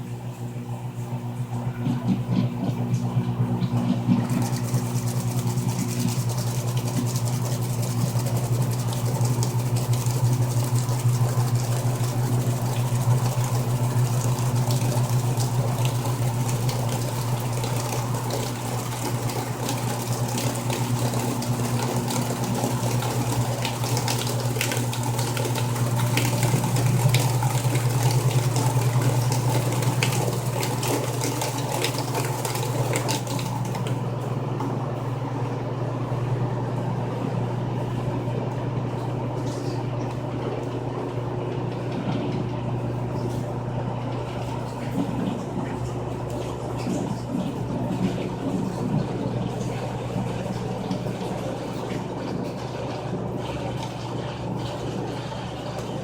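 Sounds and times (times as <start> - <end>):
washing machine motor hum: 0.0 - 56.0
water moving in tub: 0.0 - 56.0.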